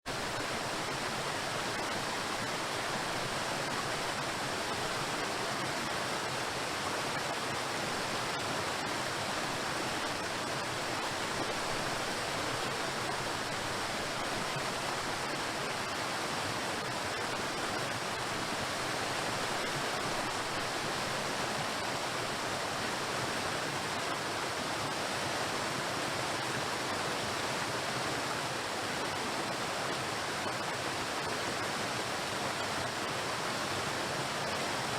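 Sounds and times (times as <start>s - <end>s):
waterfall crashing on rocks: 0.1s - 34.9s.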